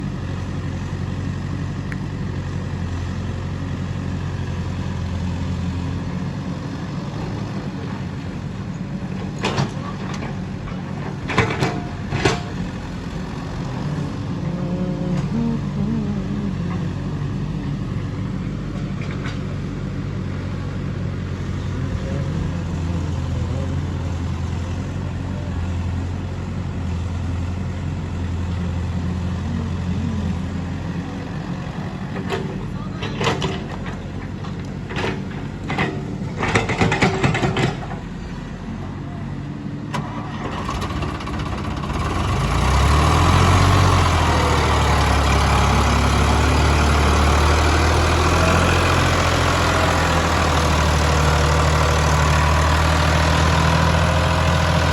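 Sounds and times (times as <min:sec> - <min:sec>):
diesel machinery droning: 0:00.0 - 0:54.9.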